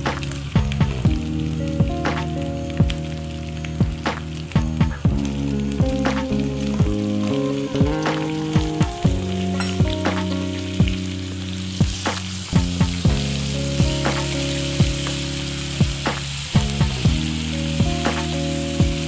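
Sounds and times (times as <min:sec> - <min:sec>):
instrumental music with beat: 0:00.0 - 0:19.0
onions sizzling in oil: 0:00.0 - 0:19.0.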